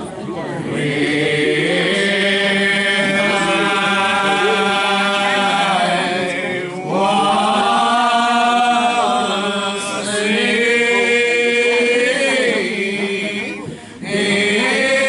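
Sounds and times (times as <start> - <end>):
voices singing a slow hymn: 0.0 - 15.0.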